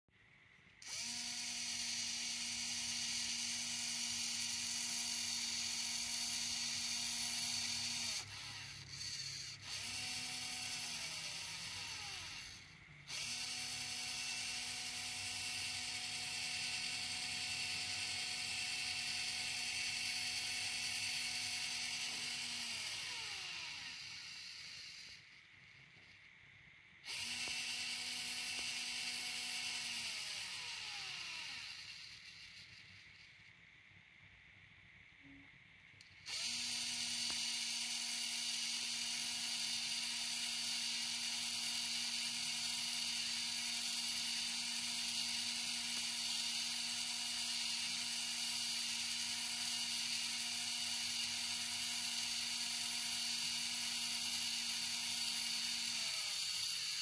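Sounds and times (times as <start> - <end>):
servo motor whirring: 0.8 - 26.2, 27.0 - 33.4, 36.0 - 57.0.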